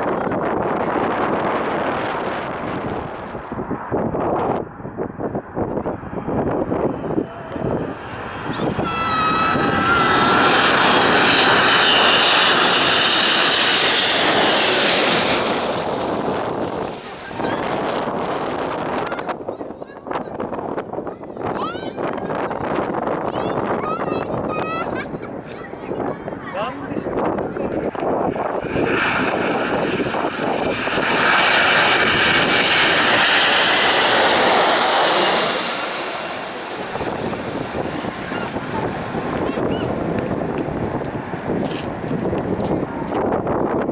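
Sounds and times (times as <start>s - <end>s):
airliner engine roar and whine: 0.0s - 19.7s, 22.8s - 43.9s.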